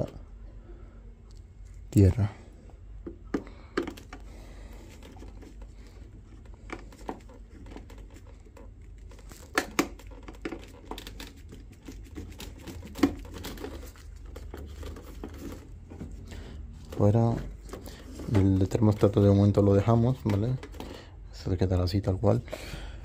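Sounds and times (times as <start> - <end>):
wires rustling and scraping: 3.3 - 22.4.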